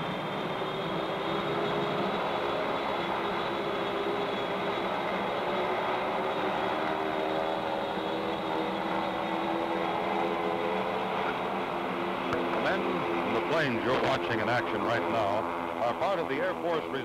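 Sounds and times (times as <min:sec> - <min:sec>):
propeller aircraft engines droning: 0:00.0 - 0:17.0.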